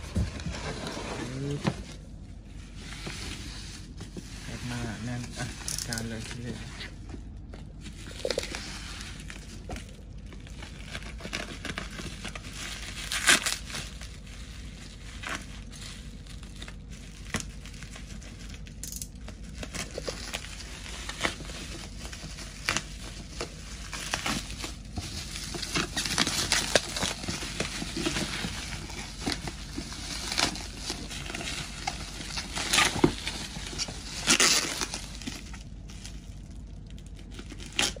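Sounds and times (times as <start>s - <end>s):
bubble wrap crackling: 0.0s - 38.0s.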